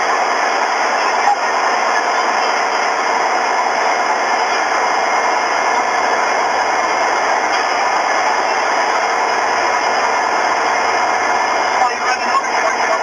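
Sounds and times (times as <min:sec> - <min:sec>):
steady noise through phone speaker: 0:00.0 - 0:13.0.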